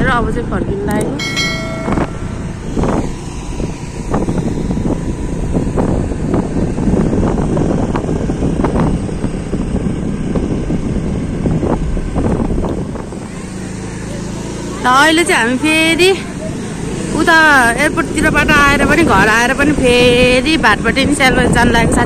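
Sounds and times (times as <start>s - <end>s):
wind buffeting microphone: 0.0s - 14.6s, 15.3s - 22.0s
scooter road and engine noise: 0.0s - 22.0s.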